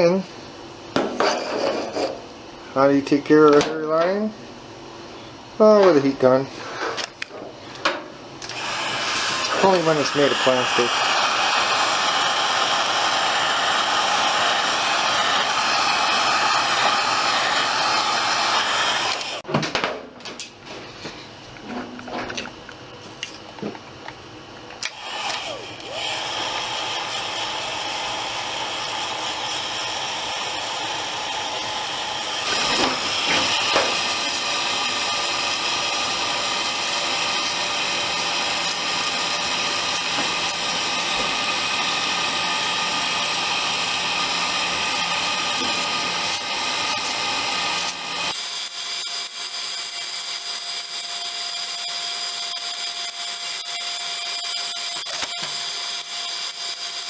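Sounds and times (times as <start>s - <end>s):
heat gun fan whine: 0.0s - 57.0s.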